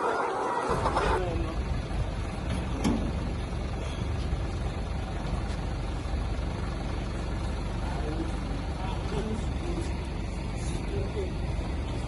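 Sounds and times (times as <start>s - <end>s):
low engine-like drone: 0.0s - 12.0s.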